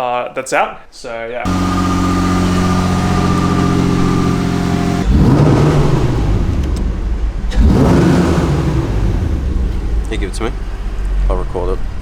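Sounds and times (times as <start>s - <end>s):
car engine idling and revving: 1.5s - 12.0s.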